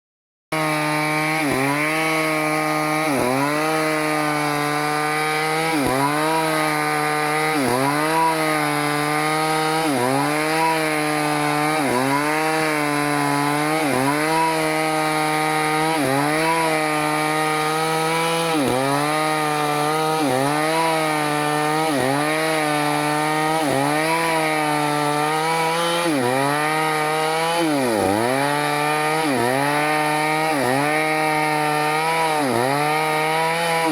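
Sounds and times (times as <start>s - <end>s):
chainsaw cutting wood: 0.5s - 33.9s.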